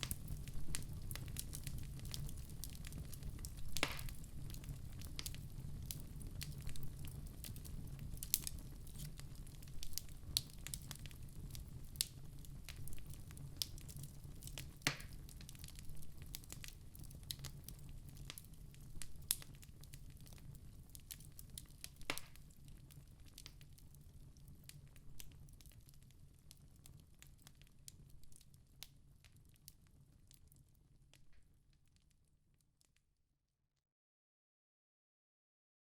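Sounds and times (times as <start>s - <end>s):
wood fire crackling: 0.0s - 32.1s.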